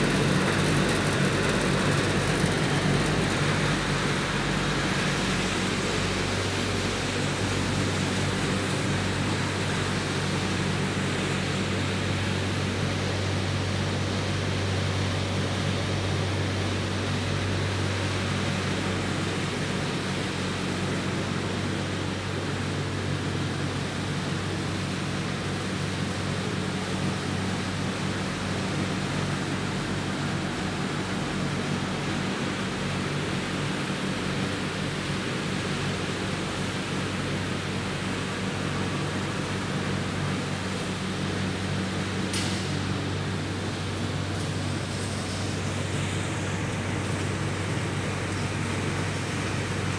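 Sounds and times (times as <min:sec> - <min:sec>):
machinery low hum: 0:00.0 - 0:49.9.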